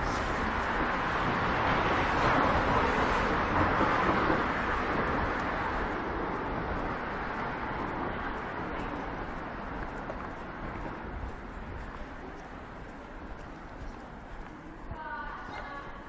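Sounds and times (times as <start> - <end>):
car passing: 0.0 - 15.4.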